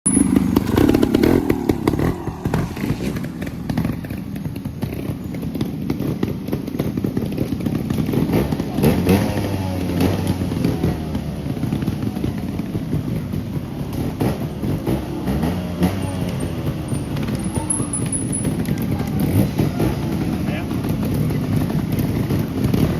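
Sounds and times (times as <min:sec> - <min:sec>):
knocks and clatter: 0:00.1 - 0:22.9
motorcycle engine revving: 0:00.1 - 0:22.9.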